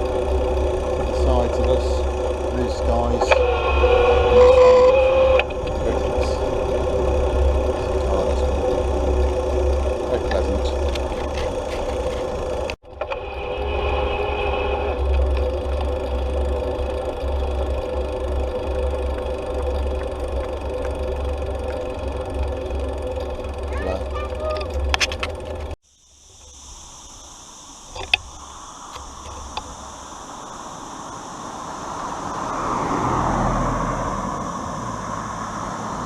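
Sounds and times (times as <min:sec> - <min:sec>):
road noise: 0:00.0 - 0:36.0.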